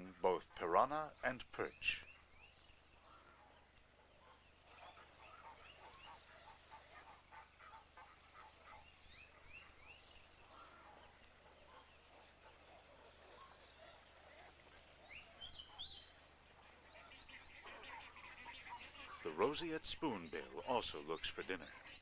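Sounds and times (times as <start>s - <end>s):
birds chirping in colony: 0.0s - 22.0s.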